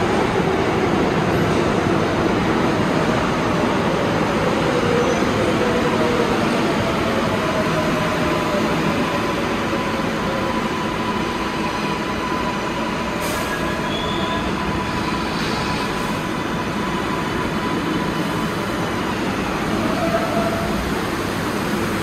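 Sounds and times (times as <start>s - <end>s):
subway train wheels rumbling on rail: 0.0s - 22.0s.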